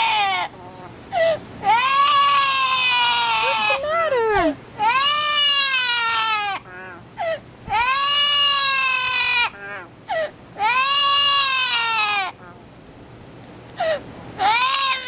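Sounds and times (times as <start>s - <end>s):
parrot wailing calls: 0.0s - 4.0s, 4.8s - 12.5s, 13.8s - 15.0s.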